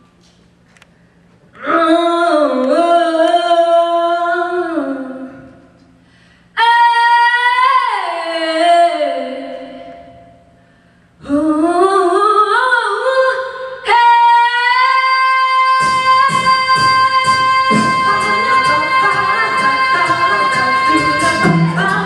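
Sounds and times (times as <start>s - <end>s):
woman singing: 1.6s - 5.5s, 6.6s - 10.2s, 11.2s - 22.0s.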